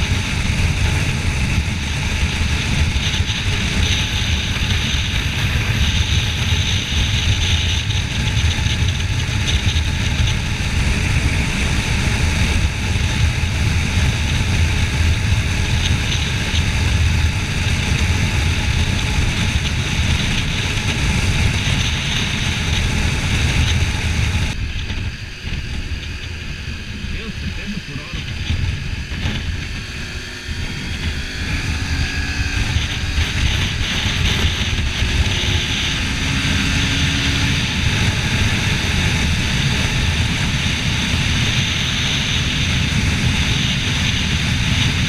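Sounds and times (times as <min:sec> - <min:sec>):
motorcycle engine rumble: 0:00.0 - 0:45.0
wind rush over microphone: 0:00.0 - 0:45.0.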